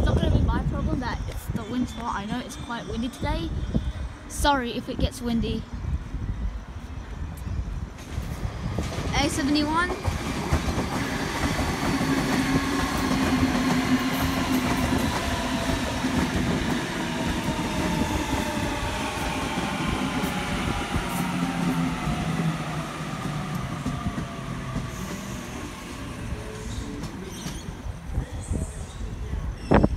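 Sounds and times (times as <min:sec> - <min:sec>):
electric train passing: 0:02.4 - 0:28.1.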